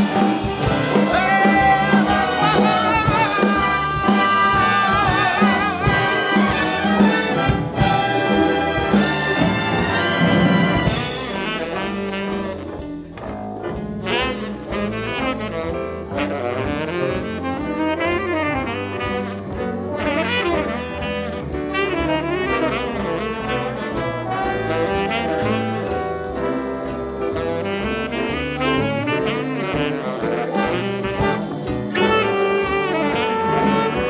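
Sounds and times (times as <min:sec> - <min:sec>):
saxophone line: 0:00.0 - 0:13.1, 0:14.0 - 0:34.0
big band brass section: 0:00.0 - 0:34.0
rhythm section and bass: 0:00.0 - 0:34.0.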